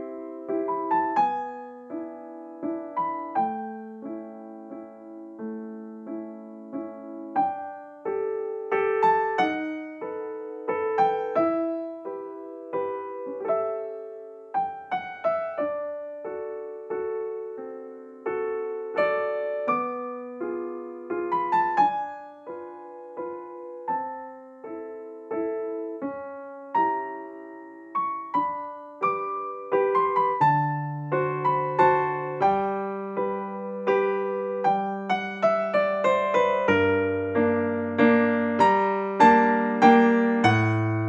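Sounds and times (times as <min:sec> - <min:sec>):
keyboard melody: 0:00.0 - 0:41.0.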